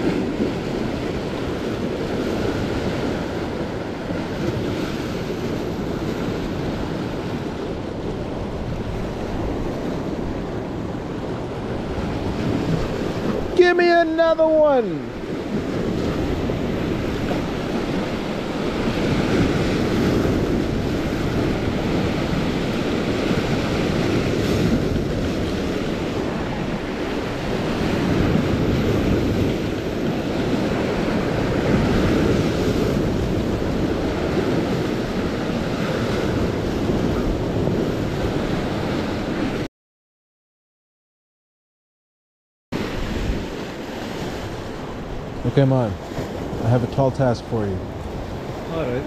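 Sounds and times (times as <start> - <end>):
waves breaking on rocks: 0.0 - 39.6, 42.8 - 49.0
wind buffeting microphone: 0.0 - 39.7, 42.8 - 49.0.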